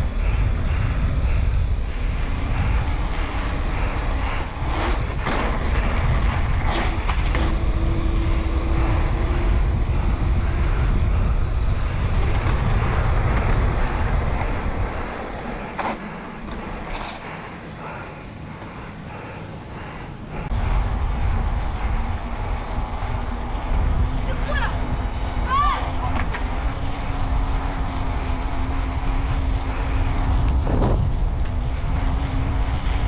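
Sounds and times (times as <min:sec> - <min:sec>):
bike tyres rolling on asphalt: 0:00.0 - 0:33.0
wind buffeting microphone: 0:00.0 - 0:33.0.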